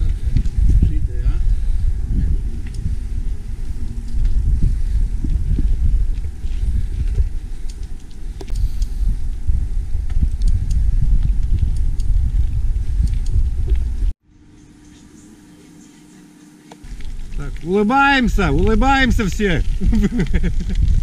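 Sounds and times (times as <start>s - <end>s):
wind buffeting microphone: 0.0s - 14.2s, 16.8s - 21.0s
faint steady hum: 0.0s - 21.0s.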